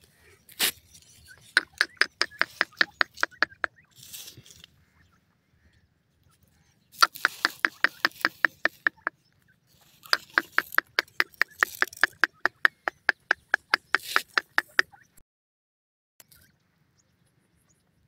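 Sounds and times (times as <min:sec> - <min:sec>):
francolins clucking: 0:00.0 - 0:15.2.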